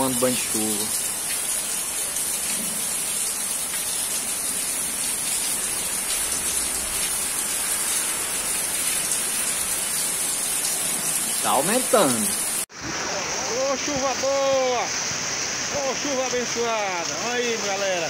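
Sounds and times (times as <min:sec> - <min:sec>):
heavy rain on pavement: 0:00.0 - 0:18.0.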